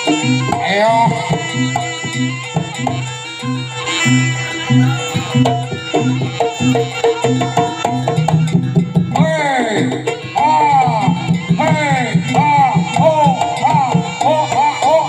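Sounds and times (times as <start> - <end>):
hand drums beating: 0.0 - 15.0
held tone: 0.0 - 15.0.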